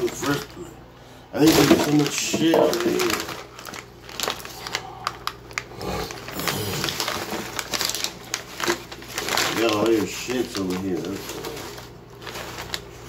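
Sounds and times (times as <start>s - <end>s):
paper wrappers crinkling: 0.0s - 0.8s, 1.4s - 13.0s.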